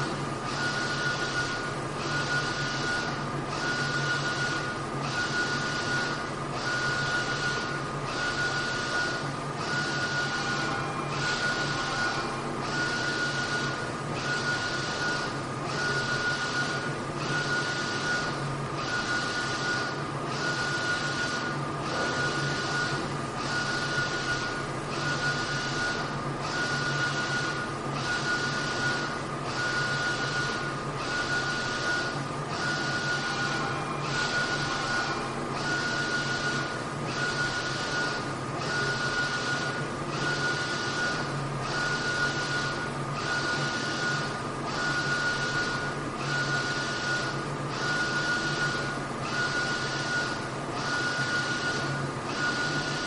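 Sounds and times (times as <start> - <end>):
printer carriage whirring: 0.0 - 53.0
printer steady whine: 0.0 - 53.0.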